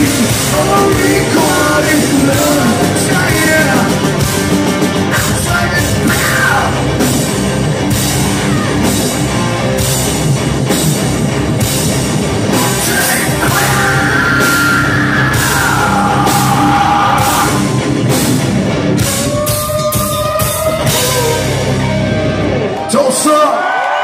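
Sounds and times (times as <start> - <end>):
heavy metal band playing: 0.0 - 23.8.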